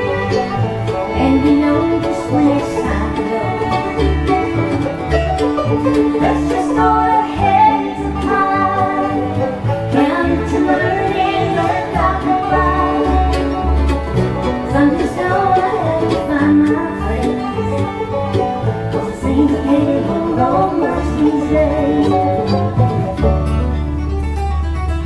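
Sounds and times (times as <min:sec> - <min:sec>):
banjo: 0:00.0 - 0:25.0
fiddle: 0:00.0 - 0:25.0
guitar: 0:00.0 - 0:25.0
mandolin: 0:00.0 - 0:25.0
upright bass: 0:00.0 - 0:25.0.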